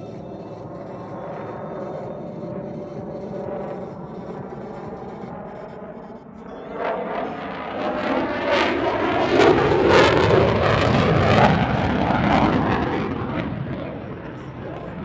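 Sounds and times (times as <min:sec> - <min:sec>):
jet flying by: 0:00.0 - 0:15.0.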